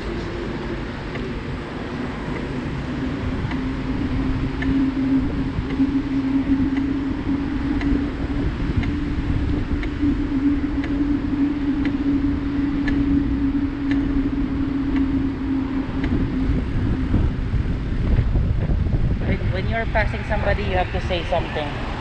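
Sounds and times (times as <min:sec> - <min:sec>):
light ticking: 0:00.0 - 0:18.3
steady low hum: 0:00.0 - 0:22.0
wind rumble on microphone: 0:00.0 - 0:22.0.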